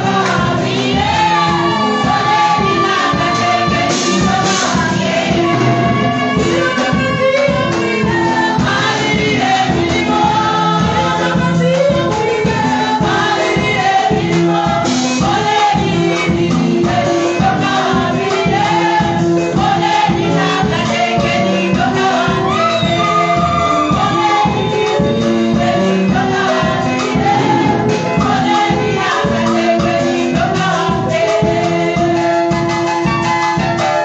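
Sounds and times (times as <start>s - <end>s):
instrumental accompaniment with beat: 0.0s - 34.0s
women's choir singing gospel: 0.0s - 34.0s.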